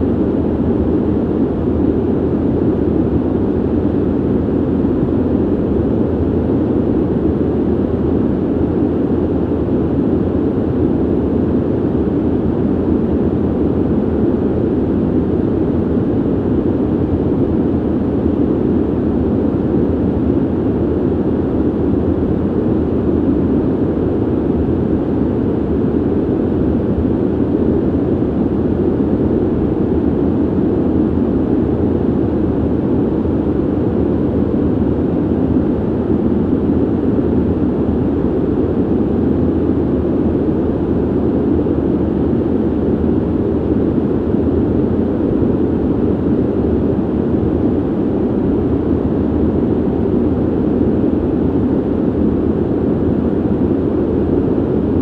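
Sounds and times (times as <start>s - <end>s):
ventilation air rushing: 0.0s - 55.0s.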